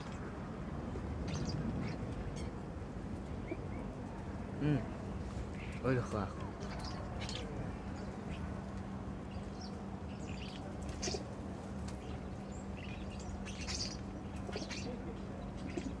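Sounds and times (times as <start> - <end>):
low hum: 0.0 - 16.0
small birds chirping: 1.0 - 2.5, 3.2 - 16.0.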